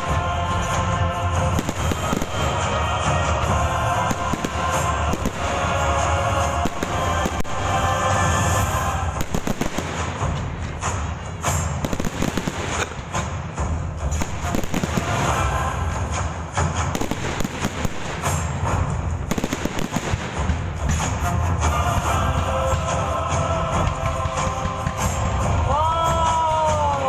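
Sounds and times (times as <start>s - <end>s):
fireworks bangs and crackling: 0.0s - 25.6s
music playing: 0.0s - 27.0s.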